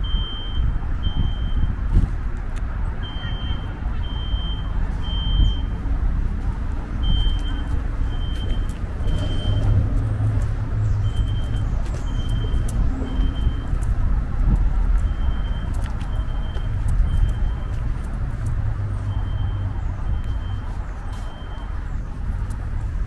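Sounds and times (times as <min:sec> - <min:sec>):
distant road traffic rumble: 0:00.0 - 0:23.0.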